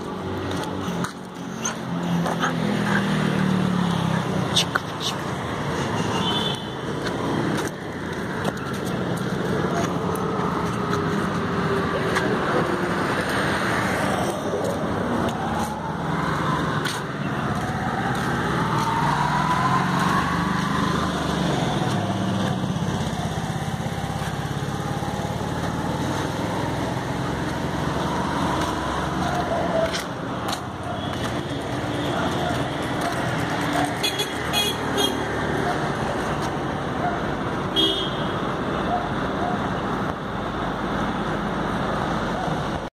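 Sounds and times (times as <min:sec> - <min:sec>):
road traffic engines passing: 0:00.0 - 0:42.9.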